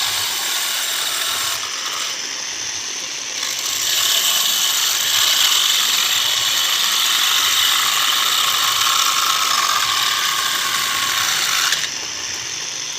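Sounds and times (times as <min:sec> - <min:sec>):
small electric chainsaw running: 0:00.0 - 0:02.2, 0:03.4 - 0:12.5.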